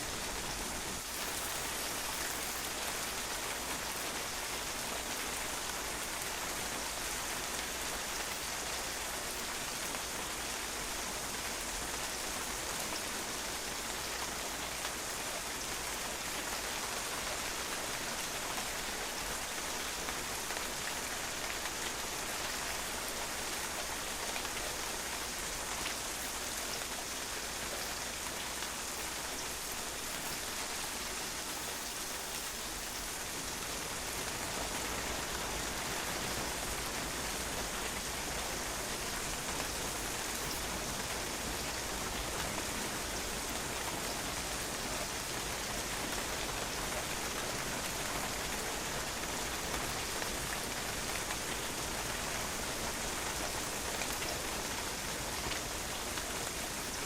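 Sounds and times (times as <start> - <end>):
rain pattering on a patio: 0.0 - 57.0.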